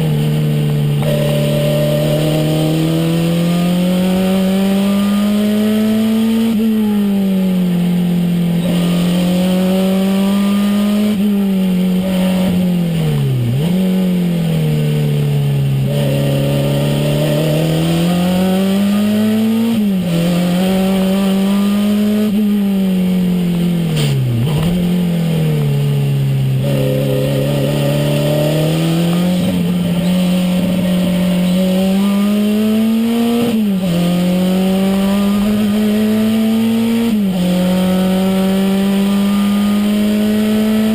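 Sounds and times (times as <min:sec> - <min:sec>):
car engine revving inside cabin: 0:00.0 - 0:40.9.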